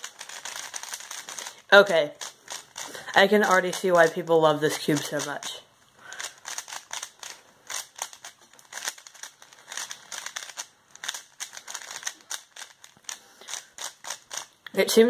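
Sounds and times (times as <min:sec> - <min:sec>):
puzzle cube layers clacking: 0:00.0 - 0:15.0.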